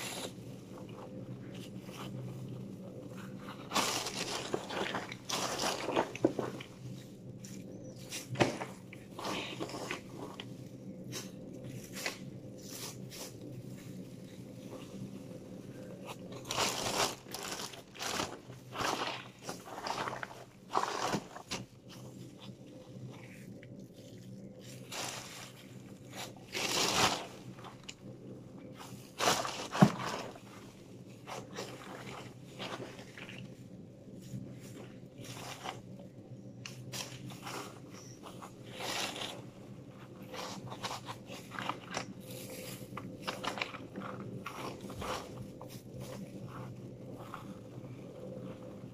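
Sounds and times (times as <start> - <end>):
plastic bag rustling: 0.0 - 48.9.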